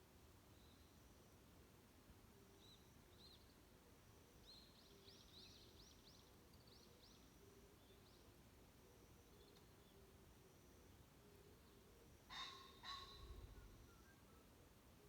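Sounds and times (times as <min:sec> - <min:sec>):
faint songbirds chirping: 0:02.4 - 0:15.0.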